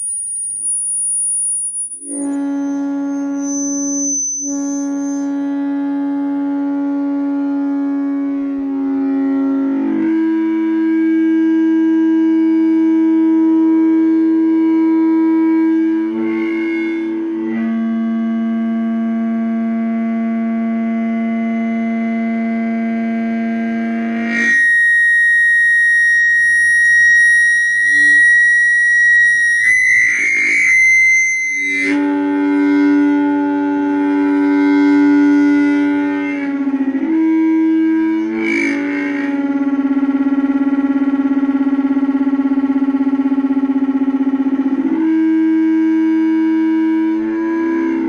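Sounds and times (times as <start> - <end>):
audio feedback tone: 0.0 - 48.0.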